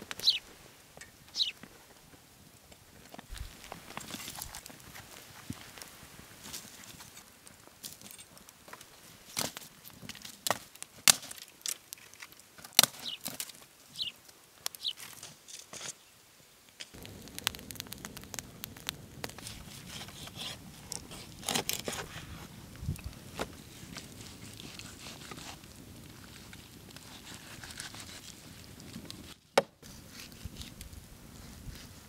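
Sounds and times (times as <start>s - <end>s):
sticks cracking over campfire: 2.6s - 16.0s, 16.7s - 31.0s.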